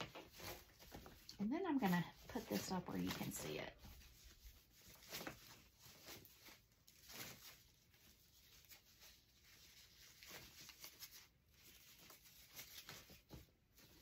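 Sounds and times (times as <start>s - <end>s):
ribbon rustling: 0.0s - 14.0s.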